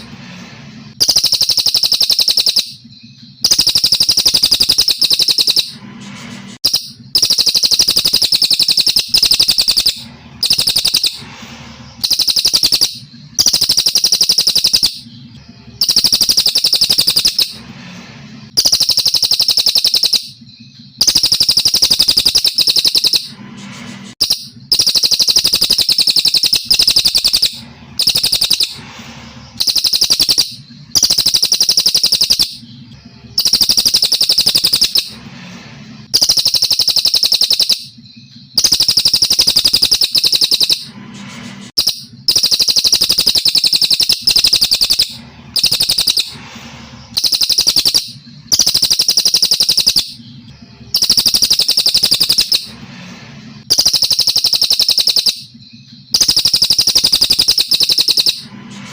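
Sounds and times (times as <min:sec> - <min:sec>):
bird high rapid trill: 0:00.0 - 0:58.9.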